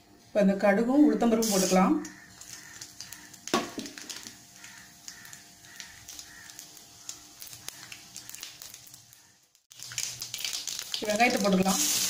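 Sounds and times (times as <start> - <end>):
seeds sizzling in hot oil: 1.4 - 12.0.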